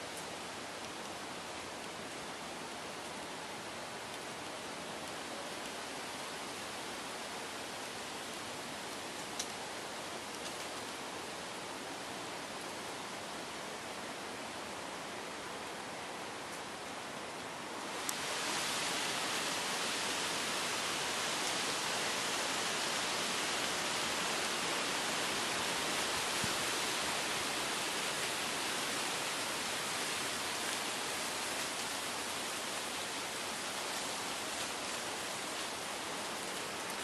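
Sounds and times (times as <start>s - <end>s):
storm wind through trees: 0.0s - 37.0s.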